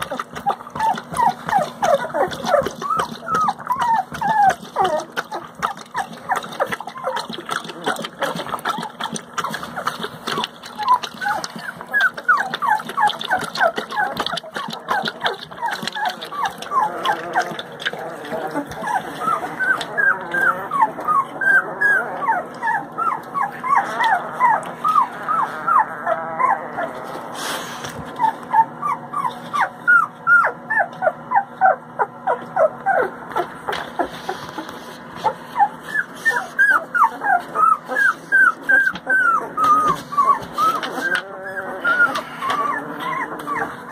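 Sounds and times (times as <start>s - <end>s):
puppies whining and squeaking: 0.0s - 43.9s.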